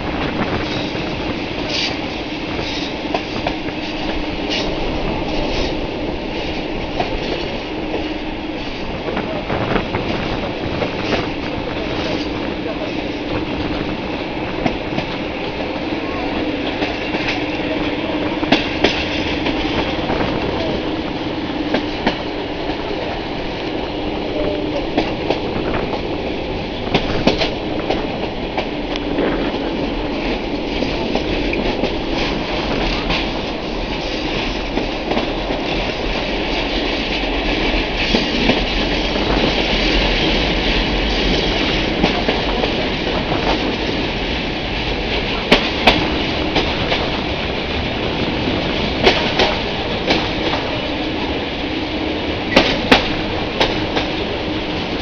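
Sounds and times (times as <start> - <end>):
train wheel and wind noise: 0.0 - 55.0.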